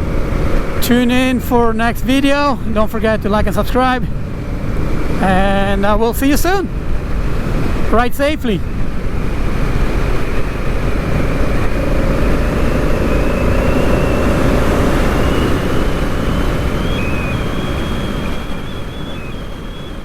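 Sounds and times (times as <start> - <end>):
motorcycle engine rumble: 0.0 - 20.0
road and wind noise: 0.0 - 20.0.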